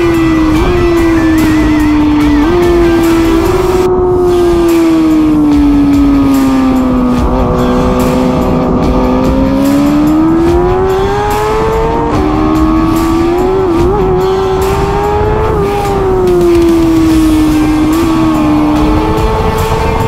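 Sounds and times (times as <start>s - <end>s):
superbike engine revving: 0.0s - 20.0s.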